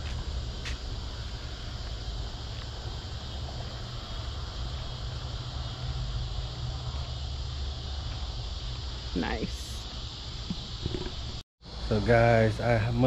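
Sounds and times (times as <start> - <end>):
crickets and insects chirping: 0.0 - 13.0.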